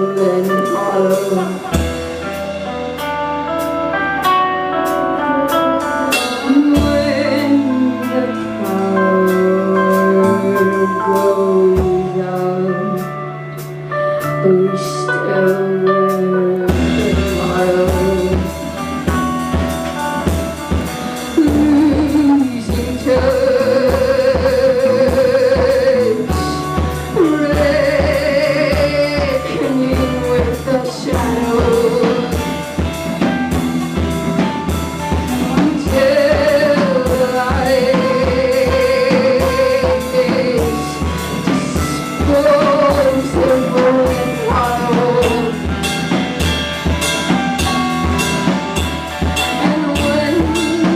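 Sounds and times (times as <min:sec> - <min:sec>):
drum kit beat: 0:00.0 - 0:50.9
held melody notes with vibrato: 0:00.0 - 0:50.9.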